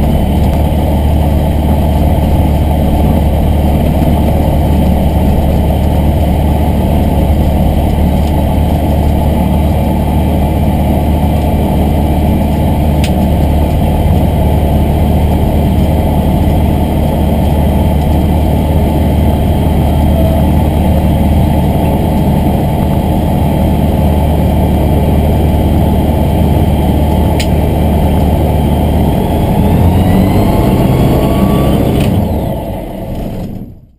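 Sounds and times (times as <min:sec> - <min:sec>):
aircraft engine and propeller: 0:00.0 - 0:33.9.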